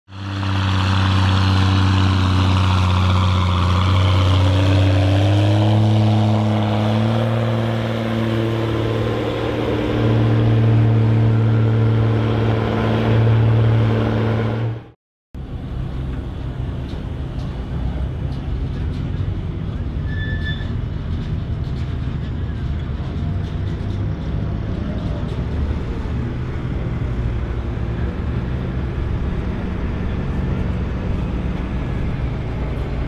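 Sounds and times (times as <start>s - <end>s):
quieter engine rumble: 0.1s - 33.0s
tractor diesel engine droning: 0.1s - 33.0s.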